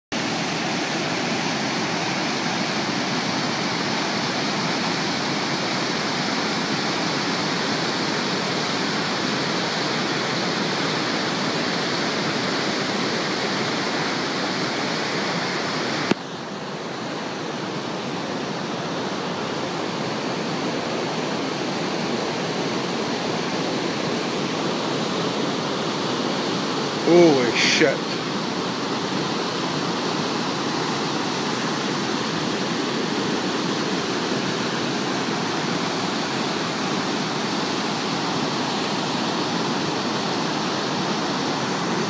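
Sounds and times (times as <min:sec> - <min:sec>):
river rushing through rapids: 0:00.2 - 0:42.0.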